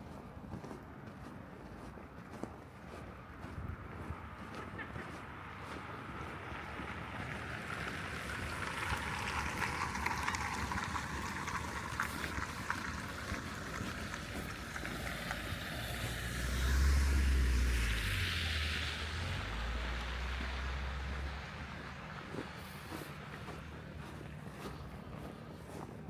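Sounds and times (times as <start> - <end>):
vehicle low rumble: 0.0 - 26.0.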